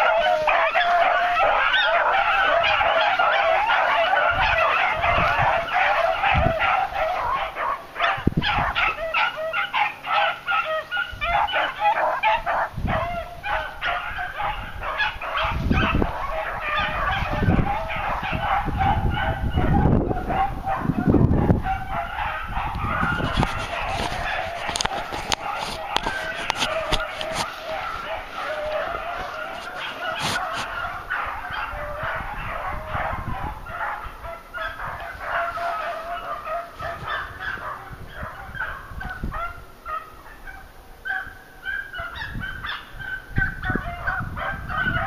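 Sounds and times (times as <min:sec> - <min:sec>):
dogs baying: 0:00.0 - 0:45.0.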